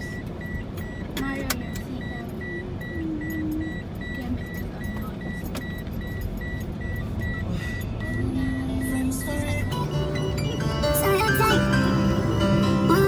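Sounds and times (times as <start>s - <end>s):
engine and tyres rumbling: 0.0s - 13.0s
high beeping: 0.0s - 13.0s.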